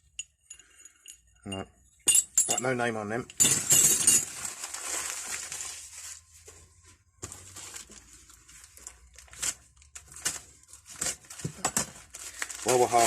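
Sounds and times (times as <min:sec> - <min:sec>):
rustling and scraping of tools: 0:00.0 - 0:13.0.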